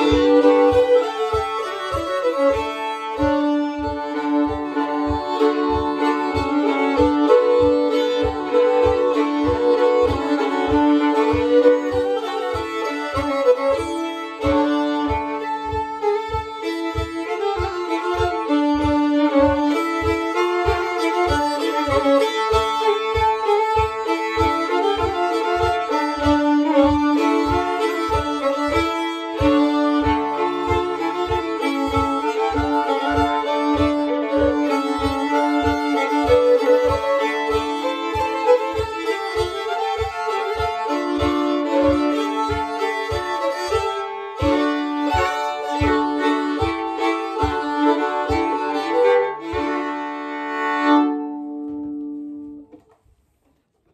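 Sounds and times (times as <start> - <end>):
two fiddles playing dance tune: 0.0 - 53.9.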